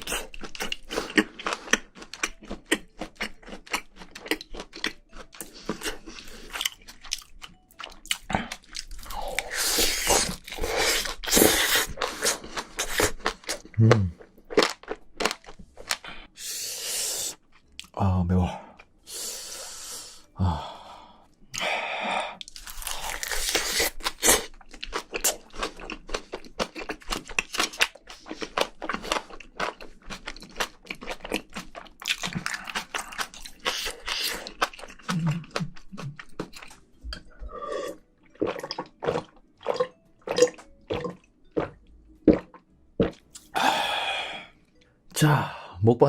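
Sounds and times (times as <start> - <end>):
close-up chewing food: 0.0 - 16.5, 21.1 - 43.6.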